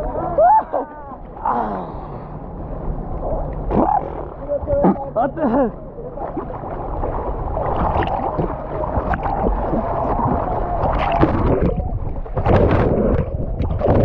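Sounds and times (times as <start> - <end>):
muffled splashing: 0.0 - 14.0
river water churning: 0.0 - 14.0
underwater bubbling: 0.0 - 14.0.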